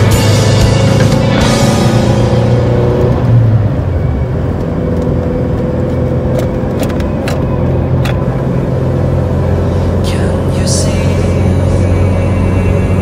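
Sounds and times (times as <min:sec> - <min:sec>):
car engine and tyre drone: 0:00.0 - 0:13.0.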